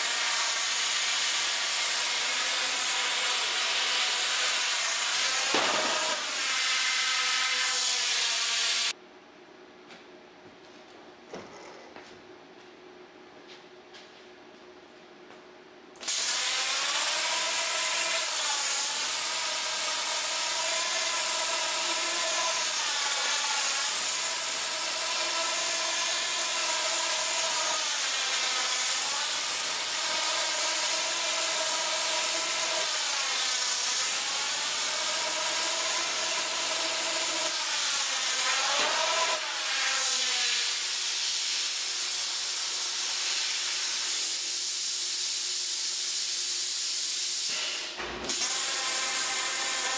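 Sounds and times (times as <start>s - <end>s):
plasma torch hissing: 0.0s - 8.9s, 16.0s - 35.6s, 37.2s - 49.9s.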